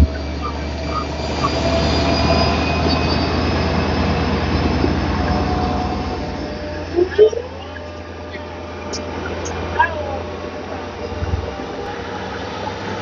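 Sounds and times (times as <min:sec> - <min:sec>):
high squealing tones: 0:00.0 - 0:11.9
train wheels rushing on rails: 0:00.0 - 0:13.0.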